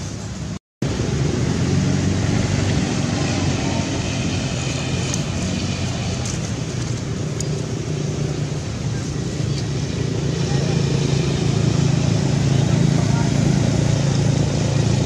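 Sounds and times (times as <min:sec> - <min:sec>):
road traffic noise: 0:00.0 - 0:15.0
vehicle engine humming: 0:00.0 - 0:15.0.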